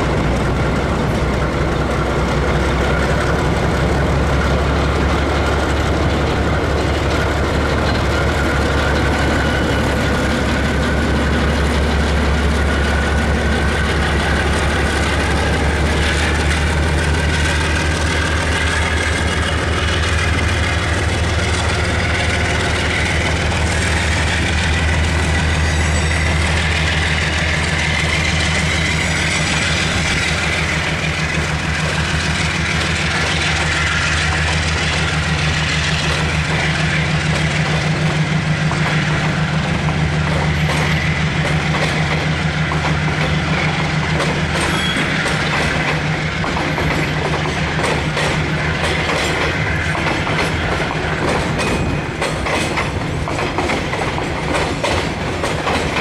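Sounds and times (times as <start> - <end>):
locomotive engines droning: 0.0 - 56.0
train wagons passing: 0.0 - 56.0.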